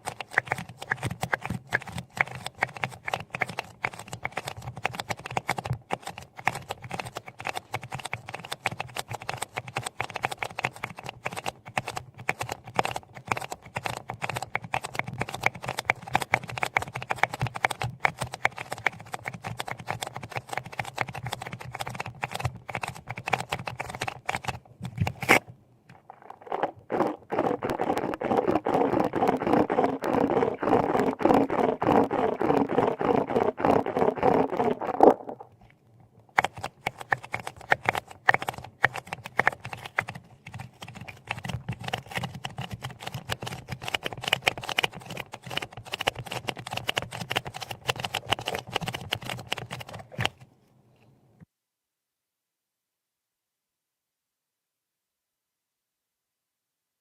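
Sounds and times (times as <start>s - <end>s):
rapid small clicks and taps: 0.0s - 50.4s.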